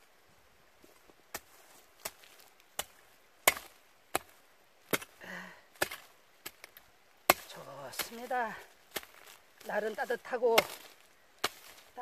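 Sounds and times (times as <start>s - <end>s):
hand tool chopping into ground: 1.3s - 12.0s.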